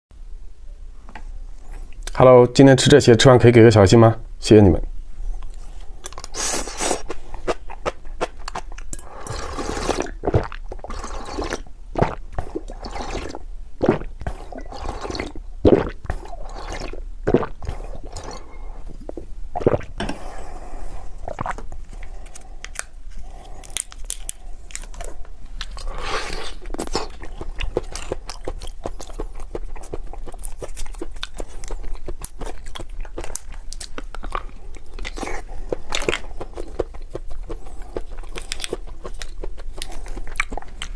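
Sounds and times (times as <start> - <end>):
wet chewing: 5.4 - 20.2, 21.2 - 40.9
food crunching: 5.5 - 20.2, 21.2 - 40.9.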